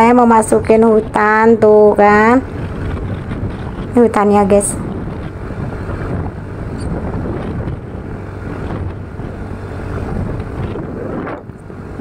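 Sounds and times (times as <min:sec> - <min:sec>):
motorcycle engine hum: 0:00.0 - 0:12.0
wind on microphone: 0:00.0 - 0:12.0.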